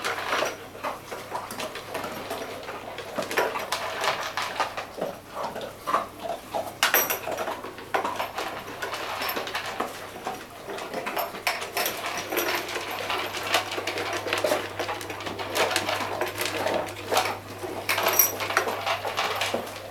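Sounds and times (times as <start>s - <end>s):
dog chewing and licking: 0.9s - 19.9s.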